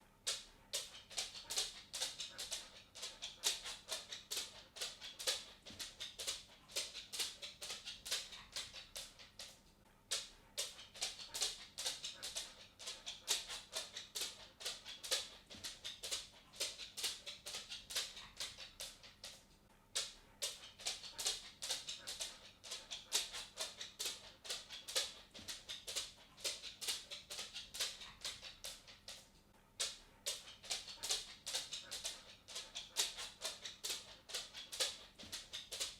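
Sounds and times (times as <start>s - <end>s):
dog claws clicking on wooden floor: 0.2s - 35.9s.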